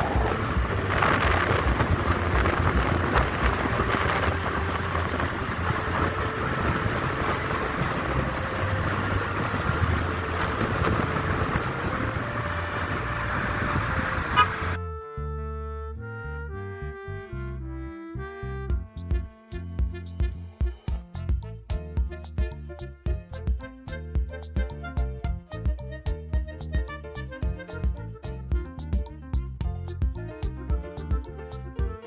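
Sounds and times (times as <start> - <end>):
music: 0.0 - 32.0
vehicle wind and road noise: 0.0 - 32.0.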